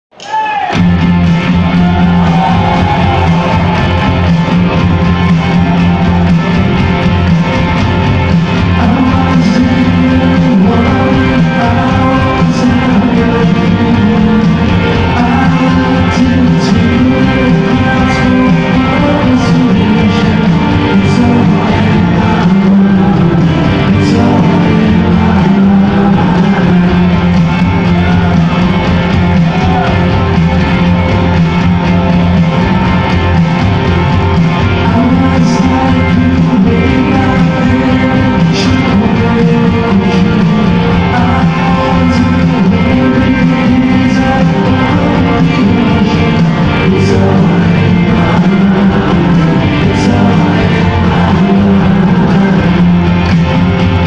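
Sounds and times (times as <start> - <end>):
rock band playing live: 0.6 - 54.0.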